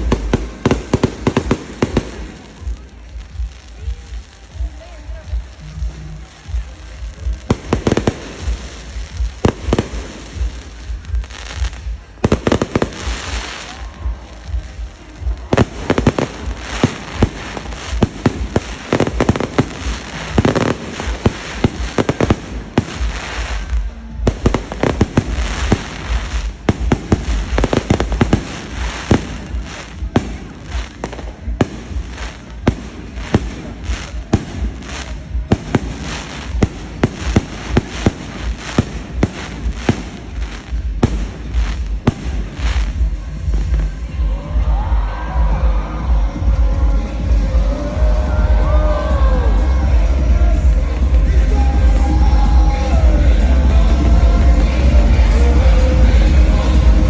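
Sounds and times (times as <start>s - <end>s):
fireworks bangs and crackling: 0.0s - 45.0s, 45.9s - 57.0s.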